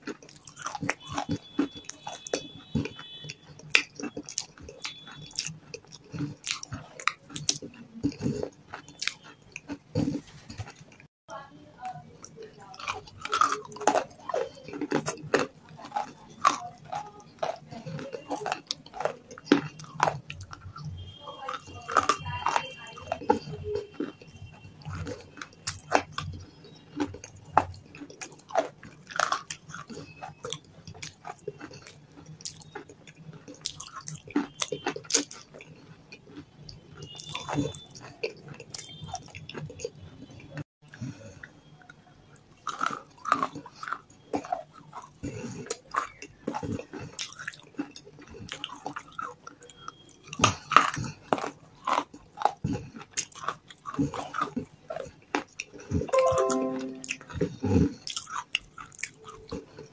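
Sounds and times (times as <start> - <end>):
crisp chewing crunches: 0.0 - 11.1, 12.2 - 57.0, 57.7 - 59.9.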